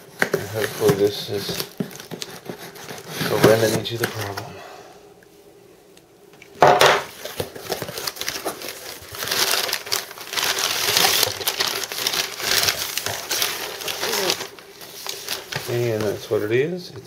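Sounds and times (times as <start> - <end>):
packaging crinkling and rustling: 0.0 - 4.5, 7.0 - 16.8.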